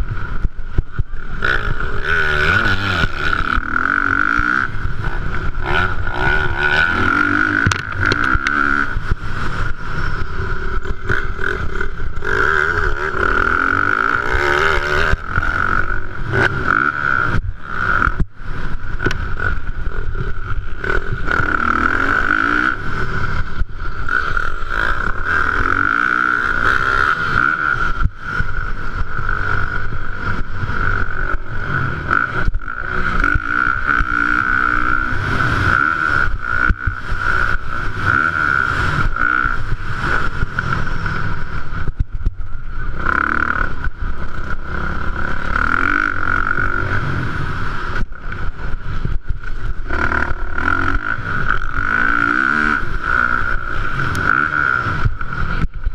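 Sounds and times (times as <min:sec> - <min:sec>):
high-pitched whine: 0:00.0 - 0:55.9
motocross bike engines revving: 0:00.0 - 0:55.9.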